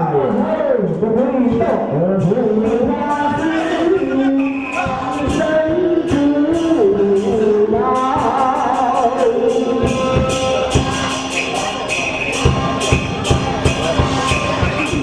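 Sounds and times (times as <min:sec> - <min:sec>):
person singing chant-like melody: 0:00.0 - 0:15.0
percussion strikes: 0:00.9 - 0:15.0.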